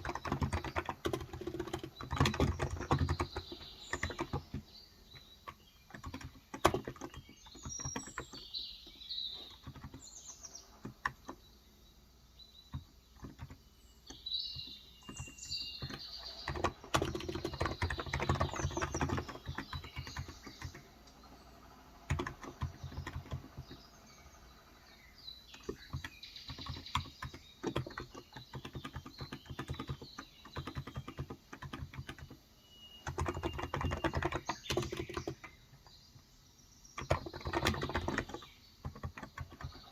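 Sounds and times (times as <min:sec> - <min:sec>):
keyboard typing: 0:00.0 - 0:08.5, 0:09.4 - 0:11.5, 0:12.7 - 0:24.3, 0:25.5 - 0:35.6, 0:37.0 - 0:39.9
small birds chirping: 0:00.0 - 0:39.9.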